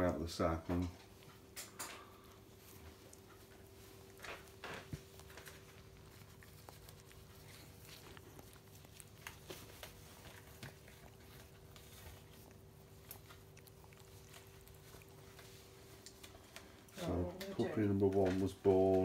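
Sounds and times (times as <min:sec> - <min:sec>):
dog licking puppy: 0:01.0 - 0:19.0.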